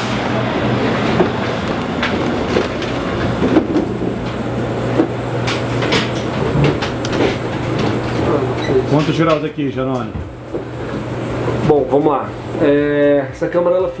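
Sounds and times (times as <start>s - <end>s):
refrigeration unit humming: 0.0s - 14.0s.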